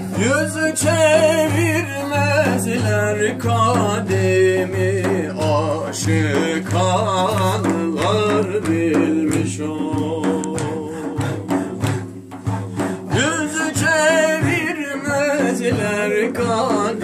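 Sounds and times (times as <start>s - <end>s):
frame drum beating: 0.0s - 17.0s
man singing a hymn: 0.0s - 17.0s.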